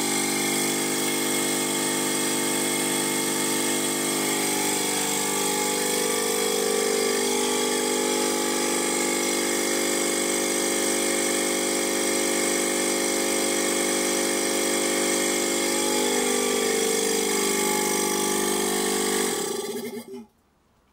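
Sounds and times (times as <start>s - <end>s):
compressor humming: 0.0s - 20.3s.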